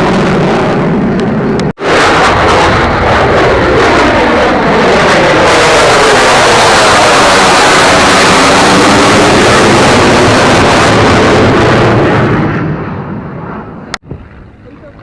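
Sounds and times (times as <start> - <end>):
jet aircraft passing: 0.0 - 15.0.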